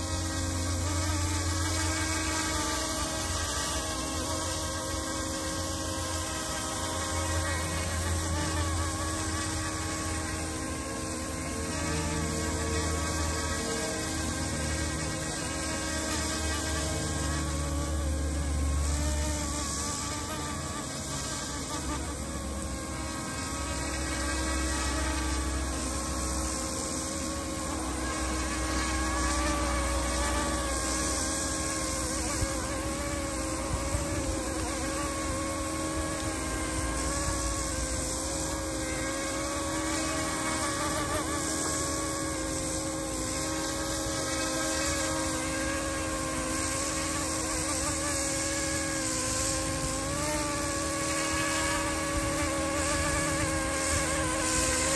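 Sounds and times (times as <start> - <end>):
model helicopter buzzing whine: 0.0 - 54.9.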